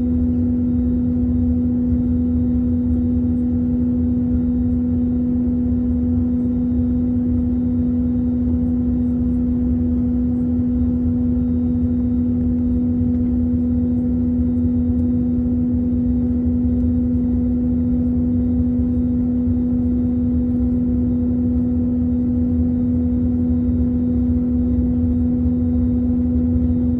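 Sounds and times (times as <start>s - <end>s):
airplane cabin drone: 0.0s - 26.9s.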